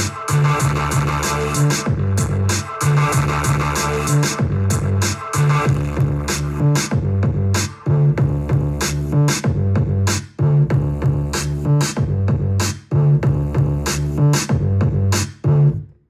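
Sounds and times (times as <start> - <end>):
hip-hop drum beat: 0.0 - 15.6
looping bass-heavy sample: 0.0 - 15.9.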